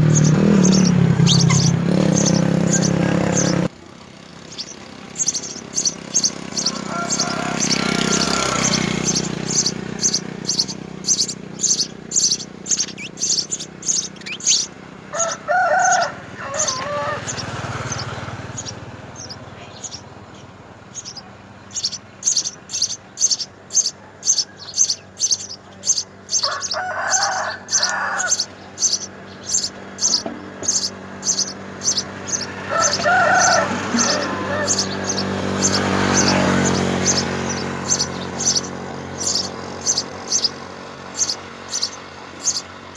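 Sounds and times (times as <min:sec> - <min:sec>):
sparrows chirping: 0:00.0 - 0:42.9
lower wavering bird call: 0:04.5 - 0:20.1, 0:21.8 - 0:42.7.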